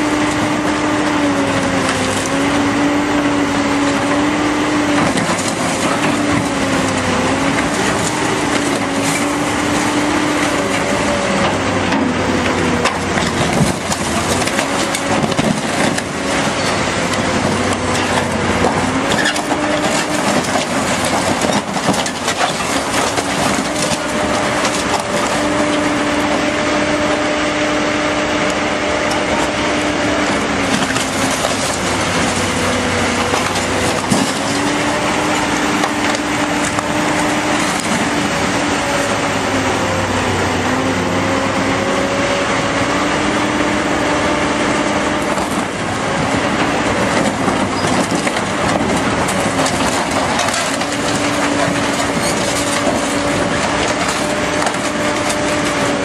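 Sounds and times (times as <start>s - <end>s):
grab crunching metal: 0.0s - 40.3s, 43.6s - 56.0s
excavator engine hum: 0.0s - 56.0s.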